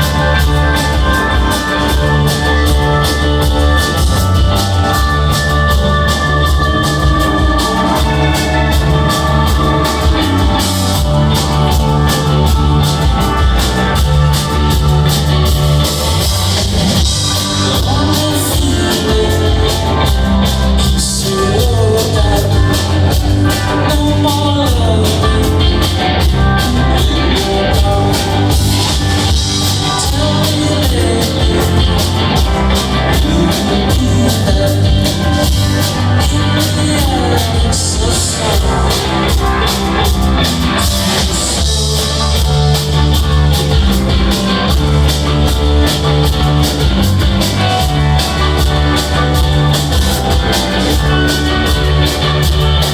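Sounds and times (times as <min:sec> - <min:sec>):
drum beat: 0:00.0 - 0:52.9
rock band playing: 0:00.0 - 0:52.9.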